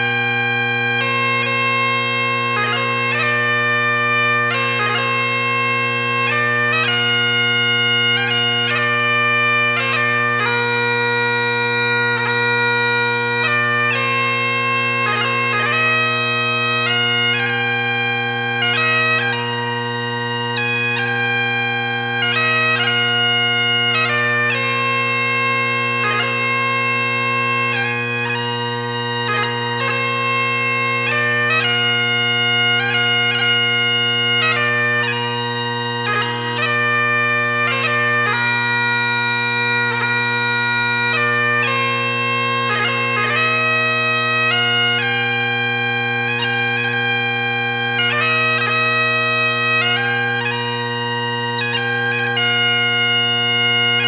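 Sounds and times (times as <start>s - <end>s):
bagpipe melody: 0.0s - 54.0s.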